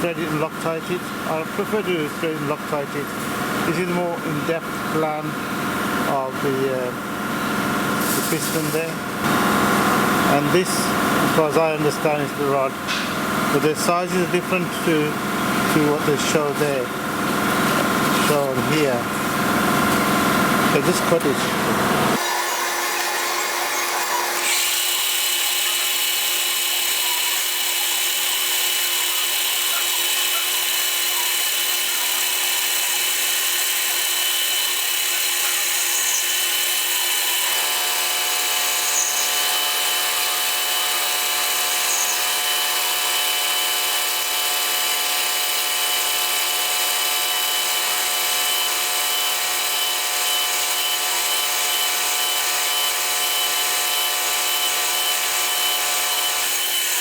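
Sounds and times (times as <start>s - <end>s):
lathe motor hum and whine: 0.0s - 57.0s.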